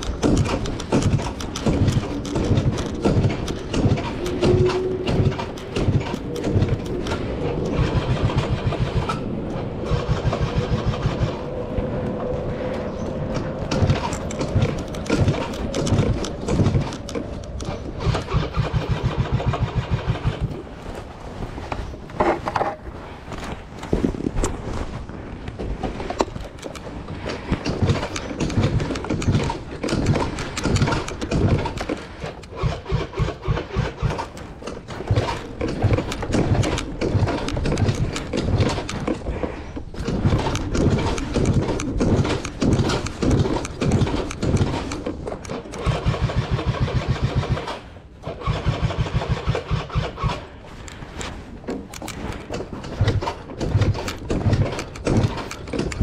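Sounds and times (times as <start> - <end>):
scooter engine cranking: 0.0 - 11.6, 13.3 - 20.6, 26.0 - 50.5, 51.7 - 56.0.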